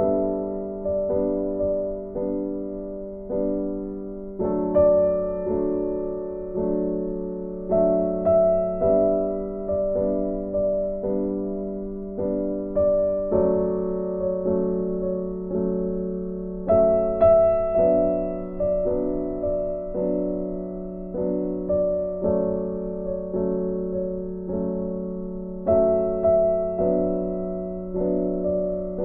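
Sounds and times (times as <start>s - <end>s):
slow gentle piano music: 0.0s - 29.0s.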